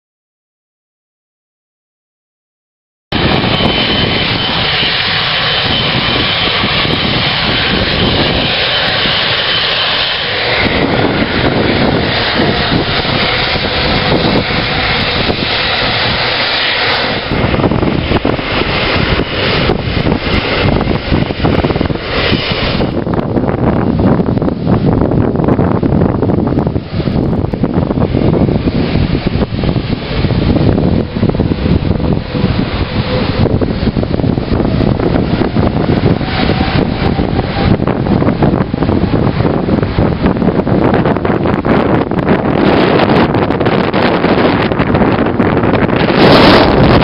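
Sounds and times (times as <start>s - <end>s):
jet engines roaring: 3.1s - 47.0s
wind on microphone: 3.1s - 47.0s.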